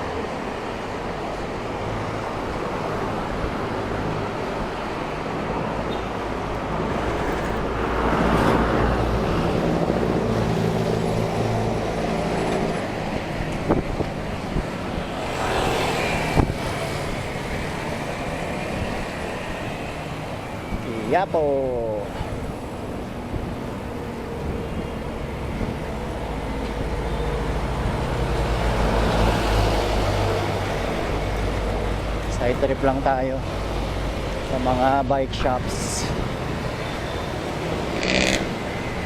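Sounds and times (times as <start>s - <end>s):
road noise: 0.0s - 39.0s.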